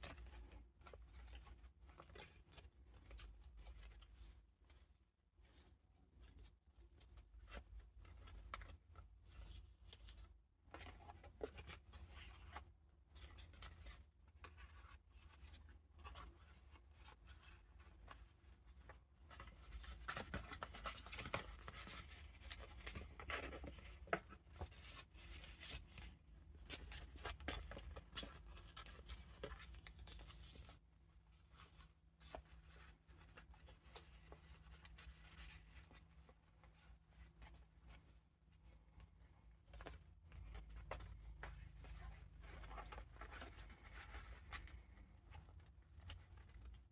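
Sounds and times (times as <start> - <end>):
paper and card rustling: 7.2 - 30.8, 31.4 - 46.9.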